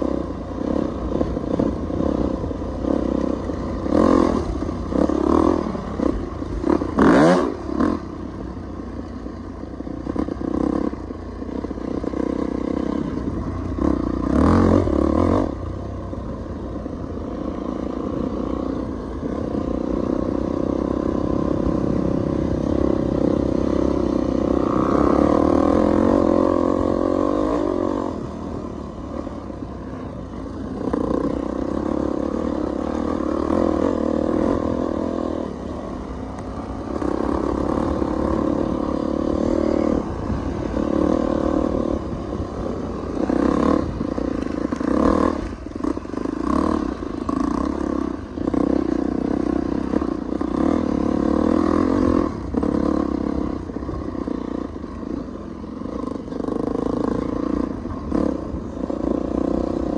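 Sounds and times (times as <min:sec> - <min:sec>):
dirt bike engine: 0:00.0 - 0:59.9.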